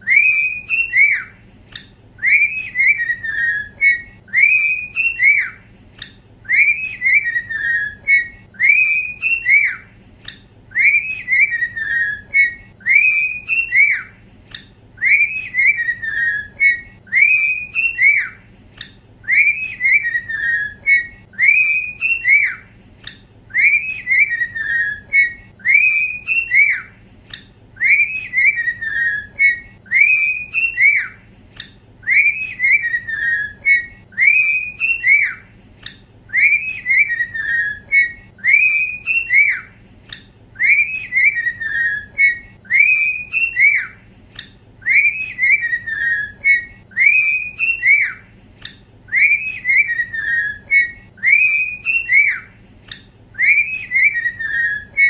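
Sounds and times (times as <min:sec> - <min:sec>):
cockatiels whistling: 0:00.0 - 0:55.0.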